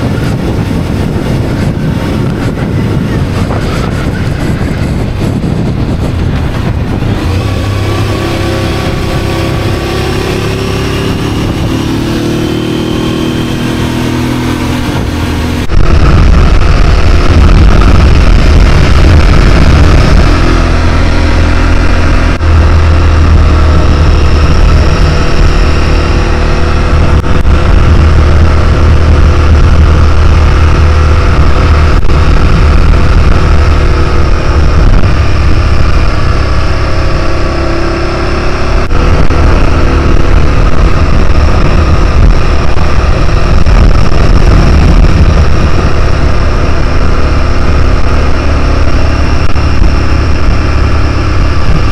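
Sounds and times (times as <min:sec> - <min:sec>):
heavy low rumble: 0:00.0 - 0:51.9
motorcycle engine: 0:00.0 - 0:51.9
wind and road noise: 0:00.0 - 0:51.9.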